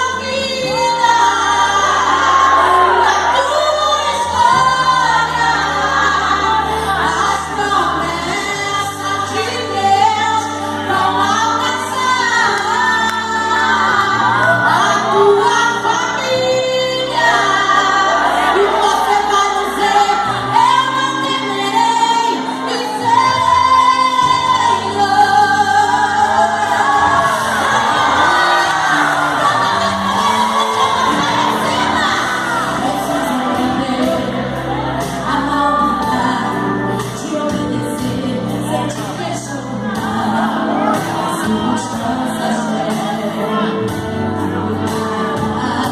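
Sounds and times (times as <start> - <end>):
sustained bass notes: 0.0 - 45.9
woman singing gospel song: 0.0 - 45.9.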